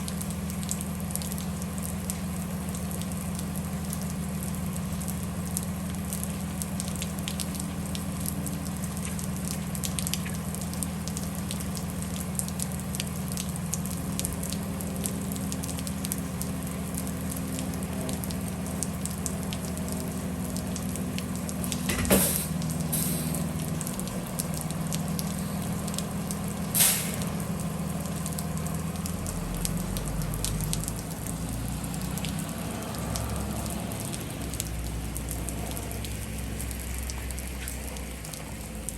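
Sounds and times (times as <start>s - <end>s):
bus engine running: 0.0s - 38.9s
rain pattering: 0.0s - 38.9s.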